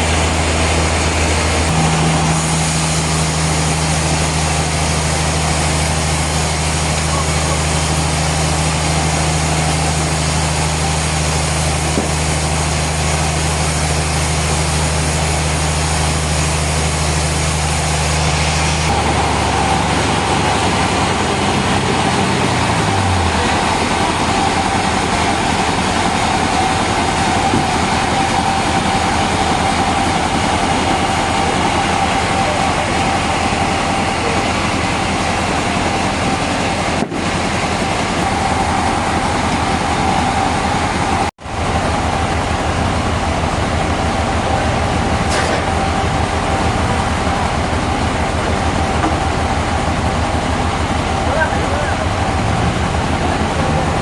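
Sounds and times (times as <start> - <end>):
high steady whine: 0.0 - 54.0
machine winding down: 0.0 - 54.0
sawmill machinery running: 0.0 - 54.0.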